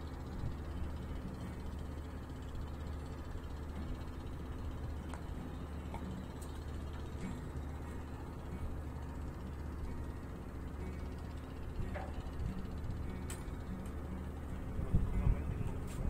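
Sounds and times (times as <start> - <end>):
low engine drone: 0.0 - 16.0
faint ticks: 0.1 - 16.0.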